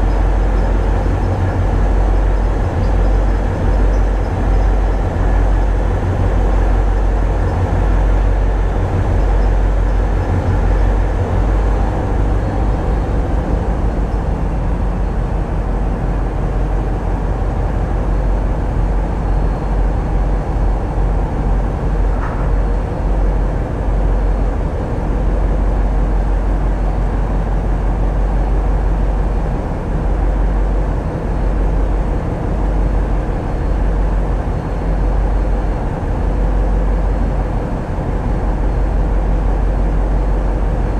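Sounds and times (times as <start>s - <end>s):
diesel engines rumbling: 0.0s - 40.9s.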